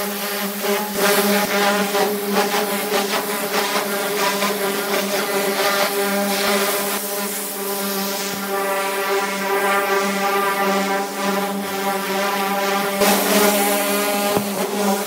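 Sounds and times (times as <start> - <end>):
pressure washer humming: 0.0 - 15.0
water jet spraying on metal: 0.0 - 15.0.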